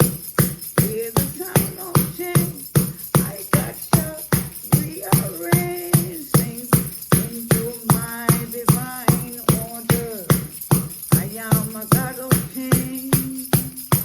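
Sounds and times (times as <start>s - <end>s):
jingling bells: 0.0s - 14.0s
music with steady beat: 0.0s - 14.0s.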